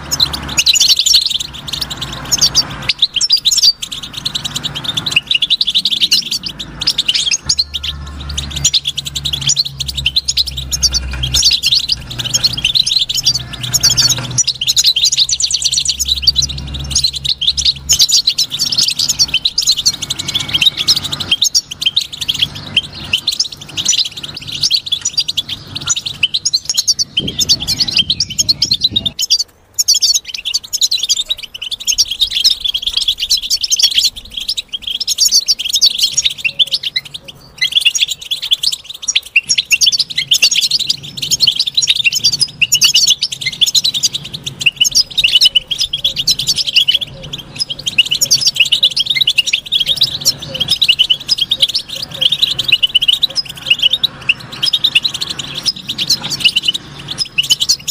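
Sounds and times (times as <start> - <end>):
finch twittering: 0.0 - 57.9.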